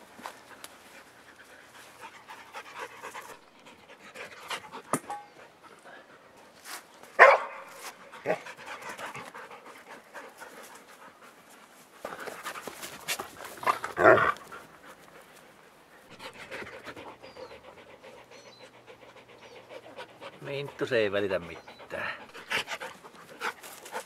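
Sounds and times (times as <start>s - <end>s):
dogs panting: 0.2s - 6.6s, 7.8s - 24.0s.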